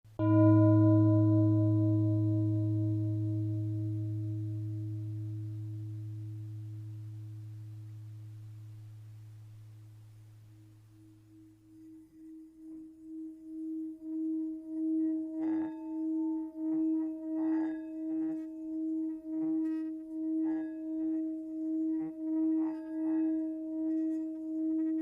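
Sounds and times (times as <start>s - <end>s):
deep bell-like tone: 0.1s - 25.0s
singing bowl ringing: 0.2s - 25.0s.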